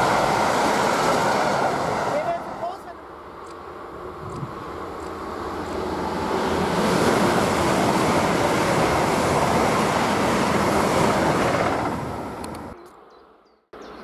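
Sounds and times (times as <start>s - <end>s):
high-speed train passing: 0.0s - 12.8s.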